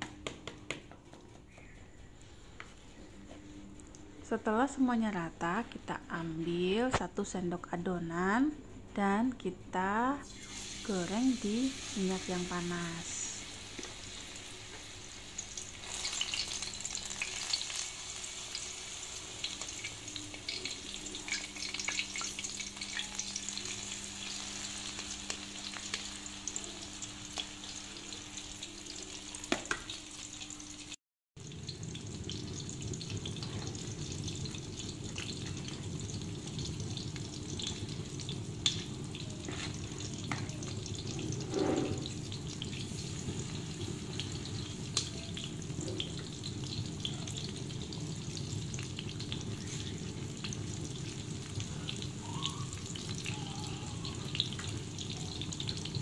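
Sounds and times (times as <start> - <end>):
deep-frying sizzle with pops: 0.0 - 1.8, 10.2 - 56.0.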